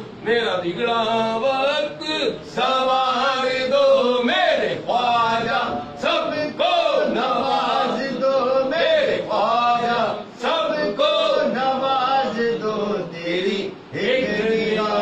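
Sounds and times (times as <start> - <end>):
man singing devotional verse: 0.2 - 15.0.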